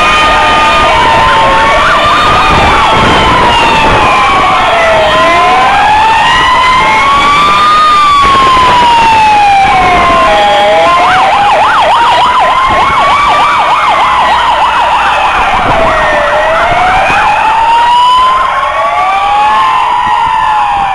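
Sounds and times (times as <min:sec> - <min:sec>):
siren wailing: 0:00.0 - 0:20.9
siren yelp warbling: 0:00.0 - 0:20.9.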